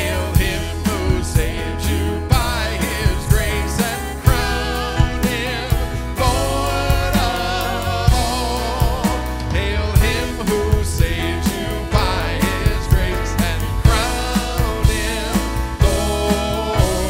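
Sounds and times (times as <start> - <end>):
drum kit beat: 0.0 - 17.0
keyboard chords: 0.0 - 17.0
voices singing: 0.0 - 17.0.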